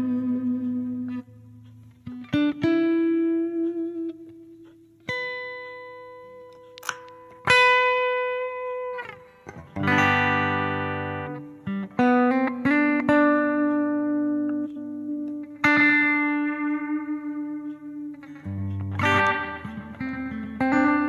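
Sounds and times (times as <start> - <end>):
electric guitar with reverb: 0.0 - 21.0.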